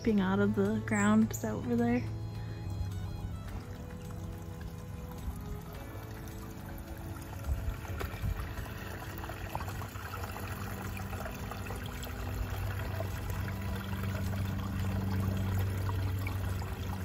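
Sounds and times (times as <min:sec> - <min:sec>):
low hum: 0:00.0 - 0:17.0
stream trickling: 0:00.0 - 0:17.0.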